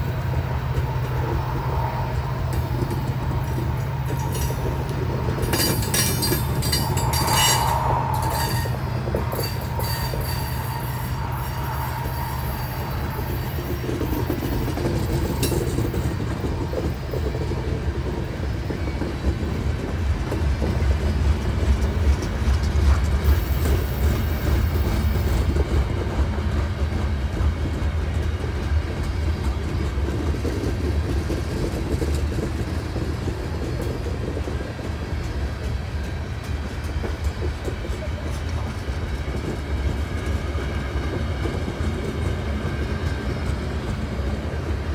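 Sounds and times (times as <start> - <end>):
freight train wheels on rail: 0.0 - 44.9.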